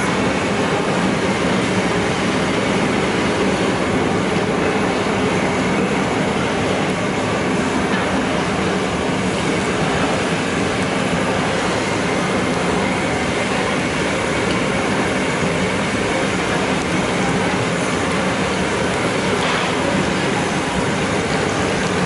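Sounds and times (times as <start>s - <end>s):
gas burner rushing: 0.0s - 22.0s.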